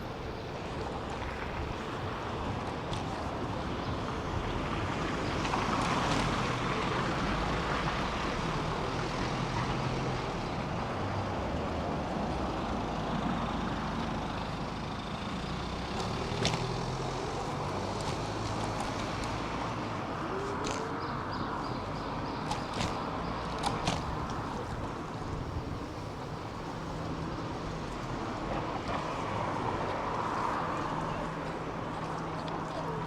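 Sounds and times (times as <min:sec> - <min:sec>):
city street traffic: 0:00.0 - 0:33.0.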